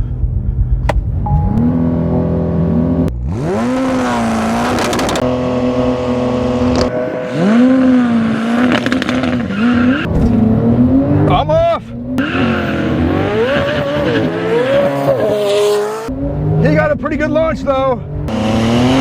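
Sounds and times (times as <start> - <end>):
car engine revving: 1.4 - 19.0.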